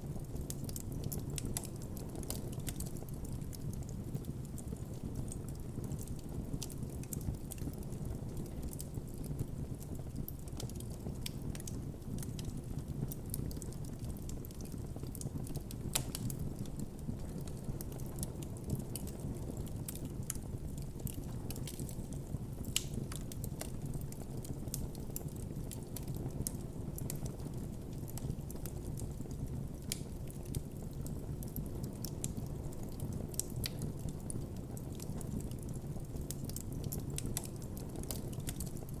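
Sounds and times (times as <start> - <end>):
campfire crackling and popping: 0.1 - 39.0.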